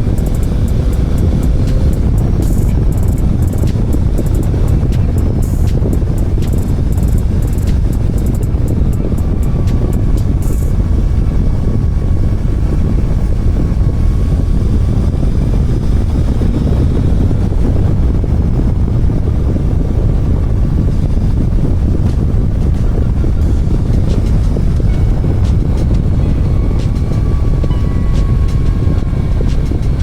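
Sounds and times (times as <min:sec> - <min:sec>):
motorcycle engine running: 0:00.0 - 0:30.0
road noise: 0:00.0 - 0:30.0
wind rumble on microphone: 0:00.0 - 0:30.0.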